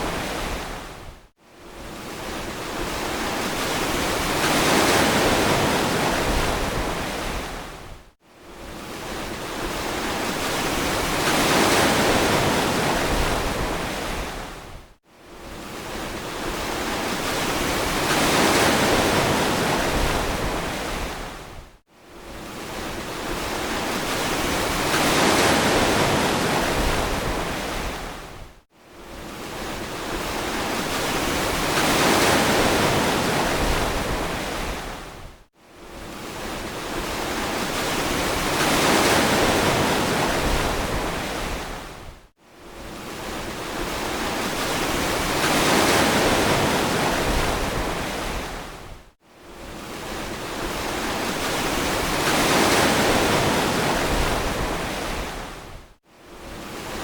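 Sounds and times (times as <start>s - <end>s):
ocean waves breaking on beach: 0.0s - 8.0s, 8.6s - 57.0s.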